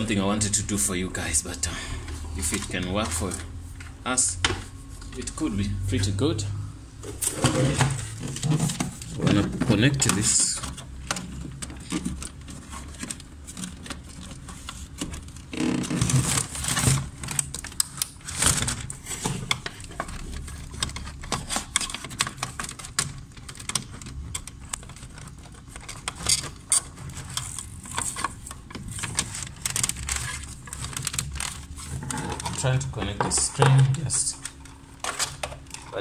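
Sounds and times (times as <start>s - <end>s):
steady low hum: 0.0s - 36.0s
cables and monitor handled on desk: 1.4s - 5.5s, 7.0s - 36.0s.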